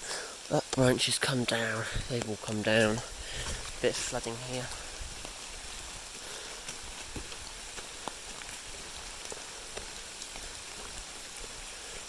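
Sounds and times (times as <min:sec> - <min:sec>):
rain hiss: 0:00.0 - 0:12.0
raindrops tapping: 0:00.0 - 0:12.0.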